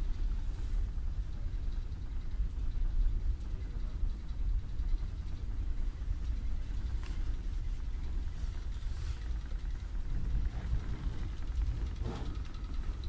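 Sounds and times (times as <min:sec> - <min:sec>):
ferry engine rumble: 0:00.0 - 0:13.0.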